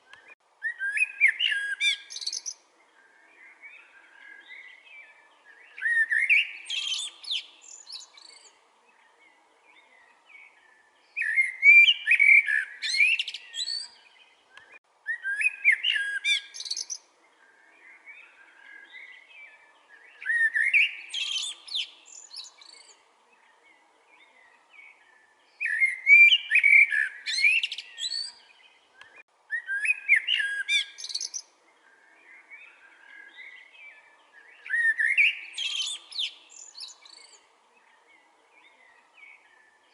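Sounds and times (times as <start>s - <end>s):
blackbird singing: 0.0s - 39.9s.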